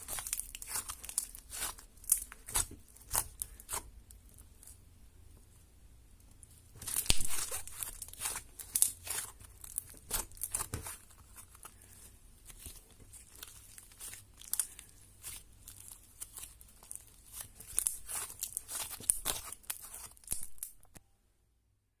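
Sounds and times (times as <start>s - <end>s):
slime squished by hand: 0.0s - 4.7s, 6.8s - 11.7s, 12.4s - 21.0s.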